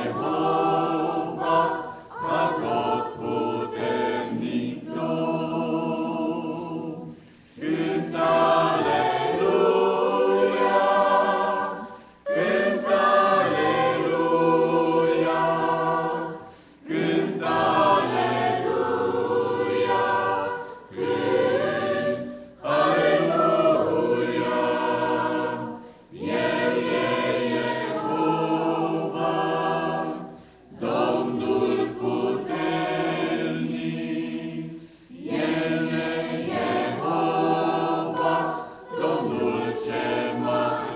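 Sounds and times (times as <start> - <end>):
mixed choir singing a hymn: 0.0 - 40.9.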